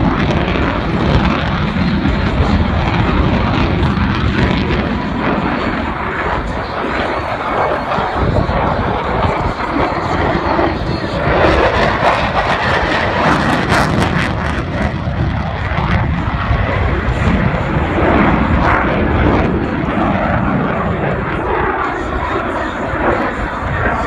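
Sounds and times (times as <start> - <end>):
fighter jet roar: 0.0 - 24.0
jet crackle: 0.0 - 24.0.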